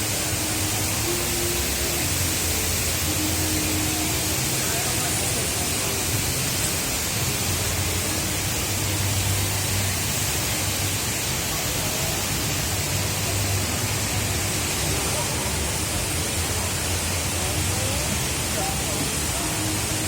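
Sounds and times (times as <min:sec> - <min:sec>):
indoor waterfall rushing: 0:00.0 - 0:20.0.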